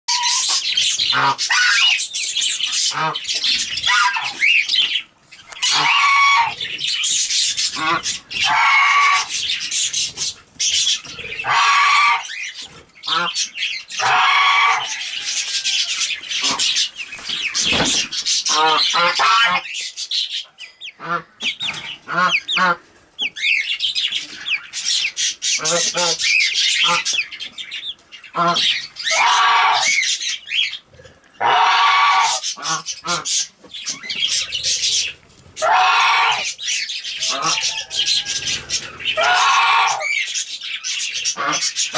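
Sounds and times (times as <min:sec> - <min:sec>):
chickens clucking: 0:00.1 - 0:41.9
chickens squawking: 0:00.1 - 0:41.9.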